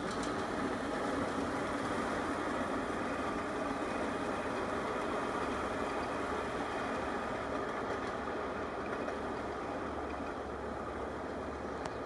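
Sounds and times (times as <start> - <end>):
small train rumbling on track: 0.0 - 12.0.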